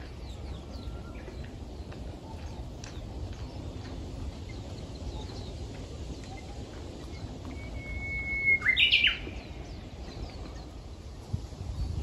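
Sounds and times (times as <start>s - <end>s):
bush warbler singing: 0.0s - 12.0s
small birds chirping: 0.0s - 12.0s.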